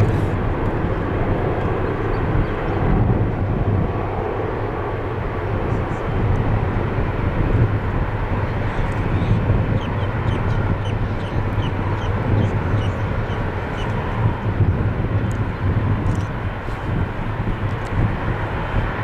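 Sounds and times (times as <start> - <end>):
jet engines deep rumble: 0.0 - 19.0.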